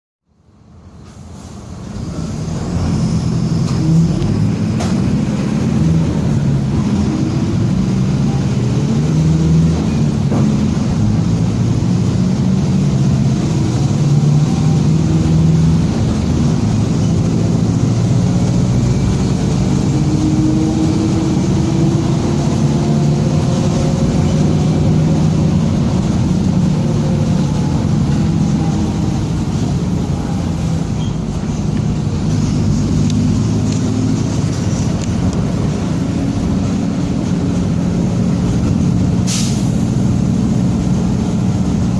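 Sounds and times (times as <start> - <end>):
bus diesel engine drone: 0.2 - 41.9.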